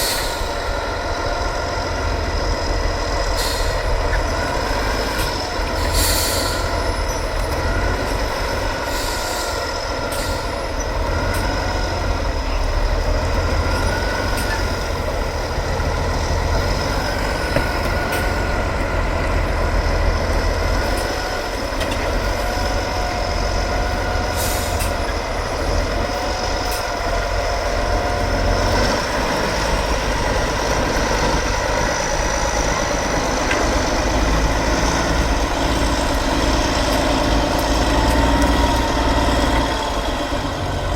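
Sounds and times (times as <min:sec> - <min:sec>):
truck diesel engine running: 0:00.0 - 0:40.9.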